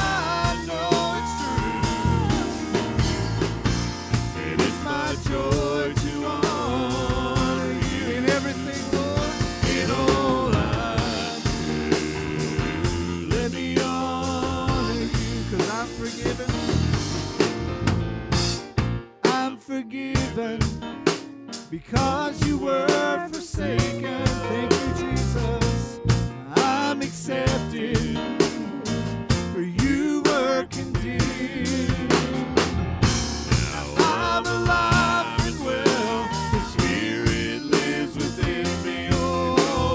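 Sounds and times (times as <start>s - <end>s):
people singing: 0.0s - 17.6s, 19.2s - 39.9s
drum kit: 0.0s - 19.6s, 20.2s - 39.9s
worship band playing: 0.0s - 39.9s.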